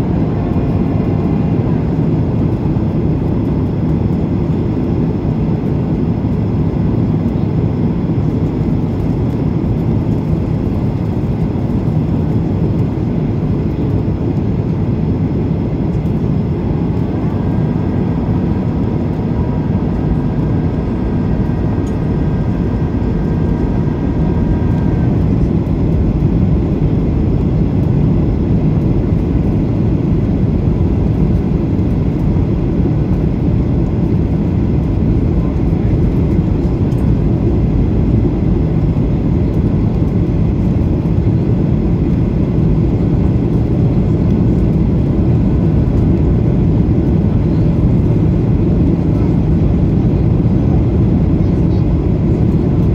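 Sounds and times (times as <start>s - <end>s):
jet engine rumble: 0.0s - 52.9s.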